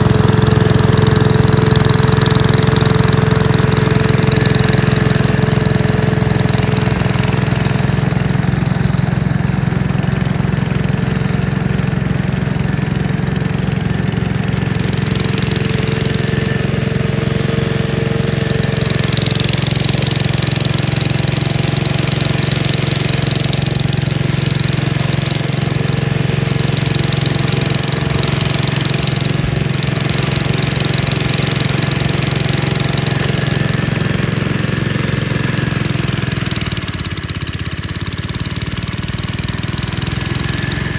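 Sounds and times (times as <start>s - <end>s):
tractor engine running steadily: 0.0s - 40.9s.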